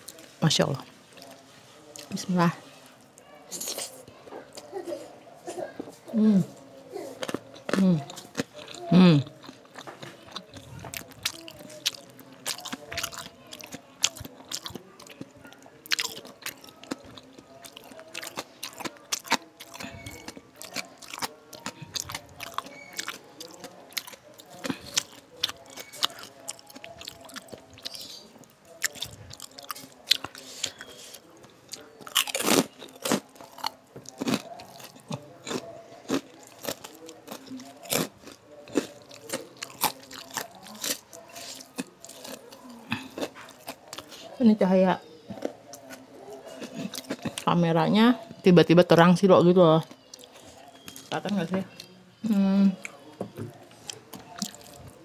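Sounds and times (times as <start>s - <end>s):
close-miked chewing crunches: 3.0s - 4.1s, 7.1s - 44.4s, 45.3s - 47.5s, 49.9s - 51.1s, 52.8s - 55.0s.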